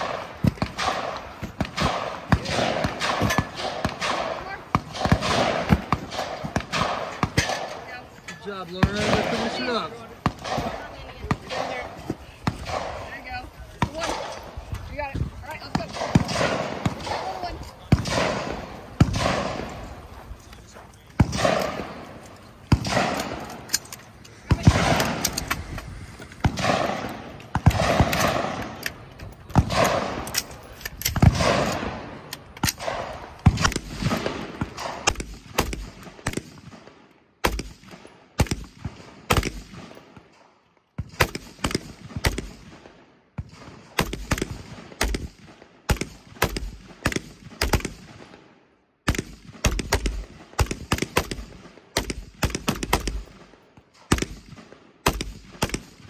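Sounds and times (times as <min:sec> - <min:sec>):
gunshots echoing: 0:00.0 - 0:56.0.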